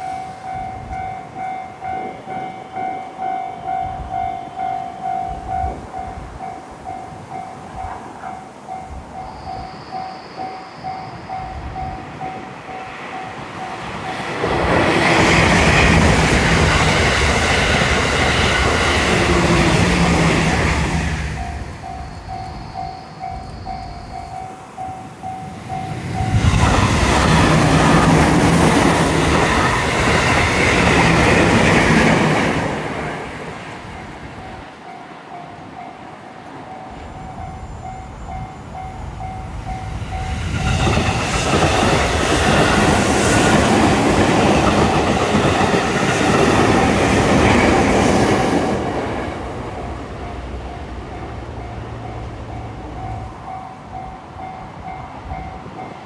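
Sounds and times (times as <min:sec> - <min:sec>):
railroad crossing alarm ringing: 0:00.0 - 0:56.0
train rumble and wheel clatter: 0:00.0 - 0:56.0.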